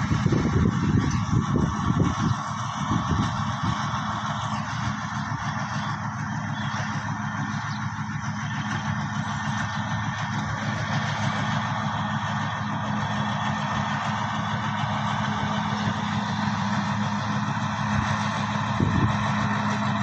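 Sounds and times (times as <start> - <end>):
locomotive engine humming: 0.0 - 20.0.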